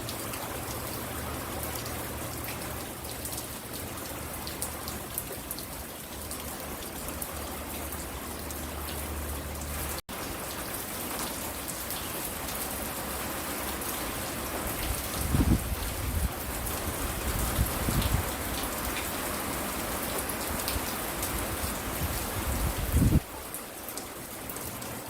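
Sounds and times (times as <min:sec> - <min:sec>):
rain falling on a porch: 0:00.0 - 0:25.0.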